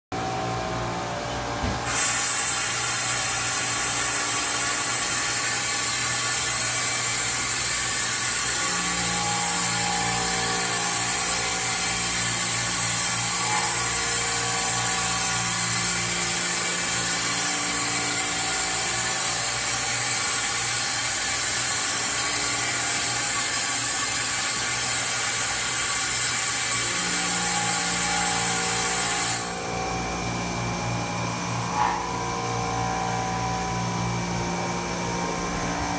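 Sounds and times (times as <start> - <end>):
low electric motor hum: 0.2 - 35.9.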